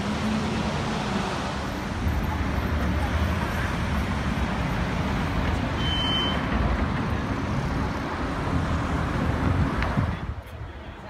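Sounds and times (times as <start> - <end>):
cars driving past: 0.0 - 10.3.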